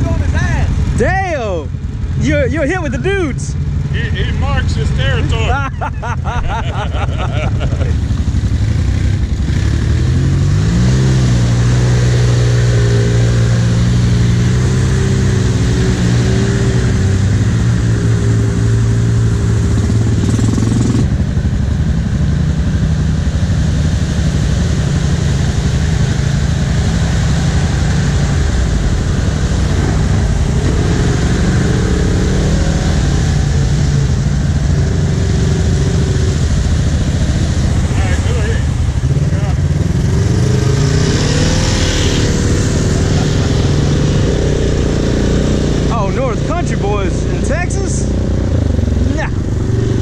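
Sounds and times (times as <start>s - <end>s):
engine revving: 0.0s - 50.0s
off-road engines running: 0.0s - 50.0s.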